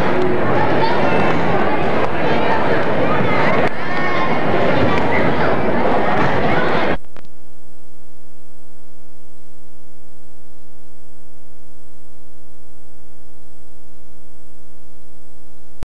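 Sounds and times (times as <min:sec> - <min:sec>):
electrical mains hum with buzz: 0:00.0 - 0:15.8.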